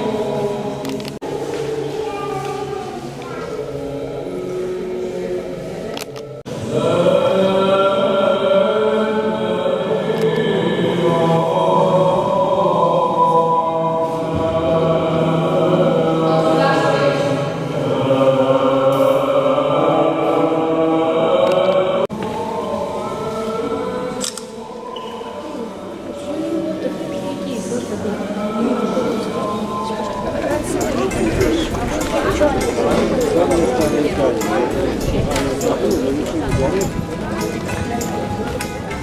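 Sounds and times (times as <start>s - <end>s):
choral church chant: 0.0s - 39.0s
quiet voices: 0.0s - 39.0s.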